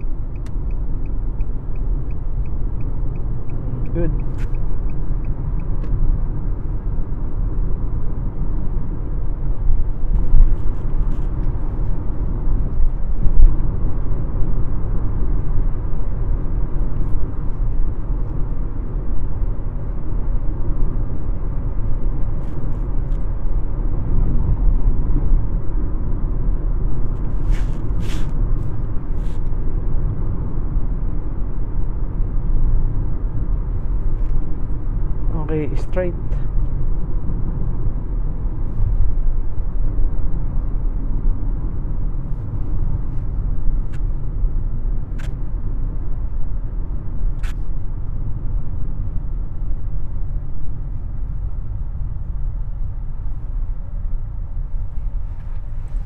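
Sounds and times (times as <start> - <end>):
road and engine rumble in car cabin: 0.0 - 56.0.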